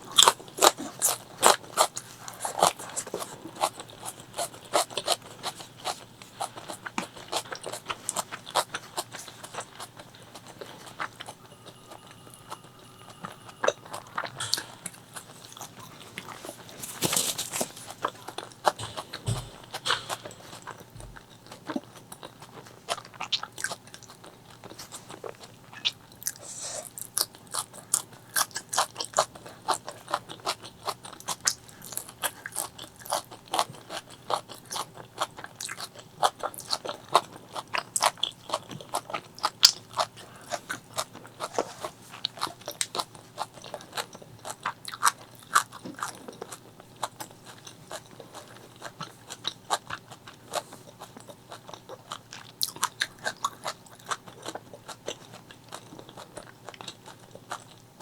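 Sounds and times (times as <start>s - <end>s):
wet crunchy chewing: 0.0s - 57.9s.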